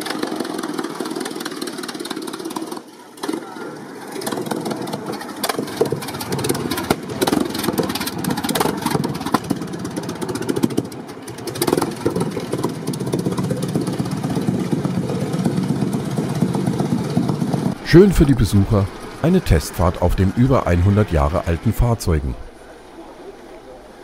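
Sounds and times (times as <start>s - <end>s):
engine exhaust firing cracks: 0.0s - 21.0s.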